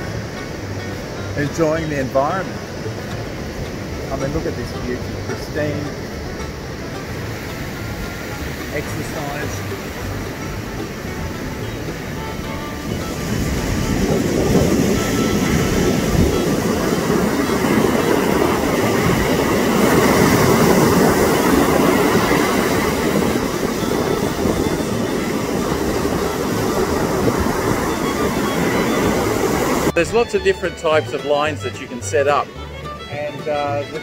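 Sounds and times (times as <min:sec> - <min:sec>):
surf rushing: 0:00.0 - 0:34.0
wind: 0:00.0 - 0:34.0.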